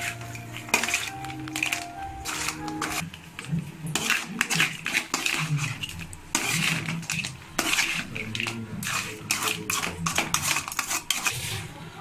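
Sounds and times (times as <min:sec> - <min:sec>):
spoon scraping metal frying pan: 0:00.0 - 0:03.1, 0:03.9 - 0:11.7.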